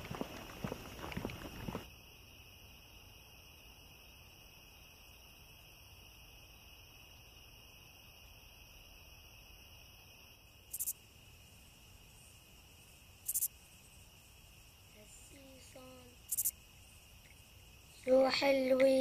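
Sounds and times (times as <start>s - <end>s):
cricket chirps: 0.0s - 19.0s
faint background noise: 0.0s - 19.0s.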